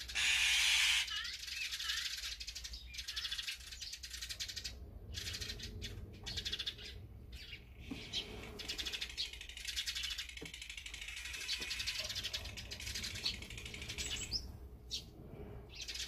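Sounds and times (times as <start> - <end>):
birds raspy chatter: 0.0 - 16.0.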